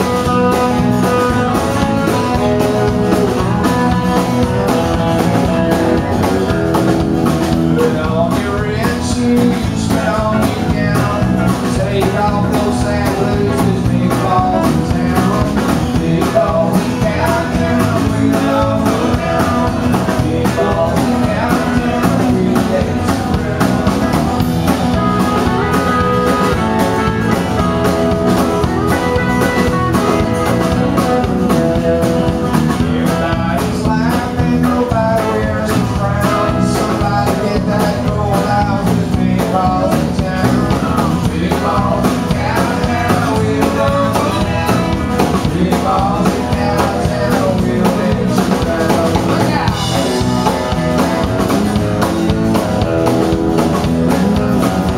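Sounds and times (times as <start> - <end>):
drum kit: 0.0 - 54.9
electric bass: 0.0 - 54.9
electric guitar: 0.0 - 54.9
strummed acoustic guitar: 0.0 - 54.9.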